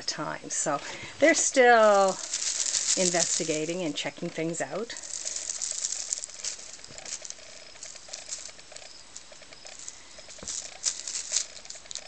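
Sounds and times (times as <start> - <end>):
crinkly tinsel cat toy rustling: 0.9 - 12.0.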